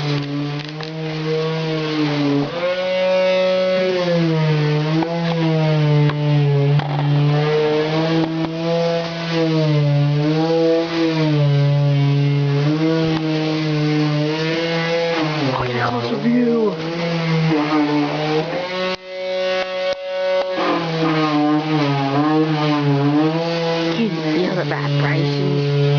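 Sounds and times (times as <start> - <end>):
small engine droning: 0.0 - 25.9.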